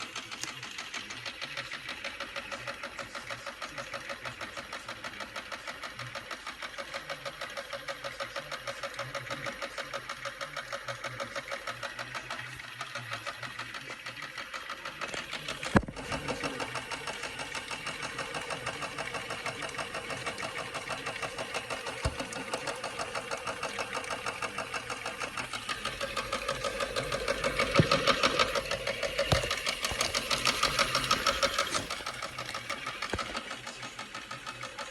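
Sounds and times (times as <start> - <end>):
toy washing machine motor rattling: 0.0 - 34.9.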